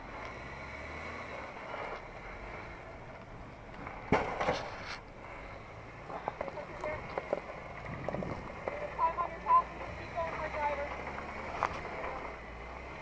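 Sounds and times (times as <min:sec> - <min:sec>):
engine running low: 0:00.0 - 0:13.0.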